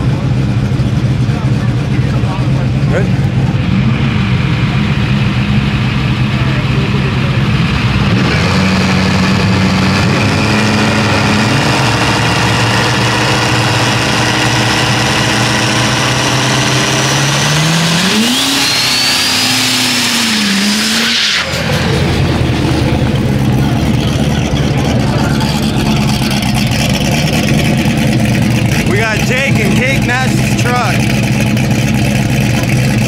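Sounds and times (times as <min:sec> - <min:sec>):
high whine: 0:00.0 - 0:33.0
pickup engine revving: 0:00.0 - 0:33.0.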